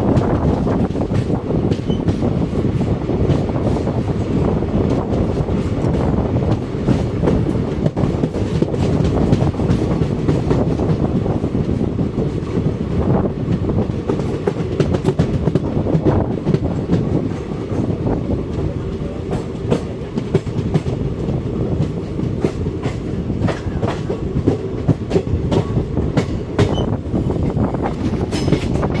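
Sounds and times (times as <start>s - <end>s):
train wheels clattering over rail joints: 0.0s - 12.7s, 13.4s - 29.0s.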